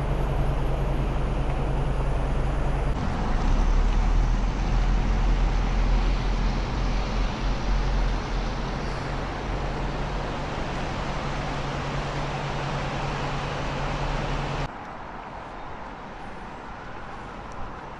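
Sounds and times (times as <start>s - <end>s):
low vehicle engine hum: 0.0s - 14.7s
rain and traffic on wet roads: 0.0s - 17.9s.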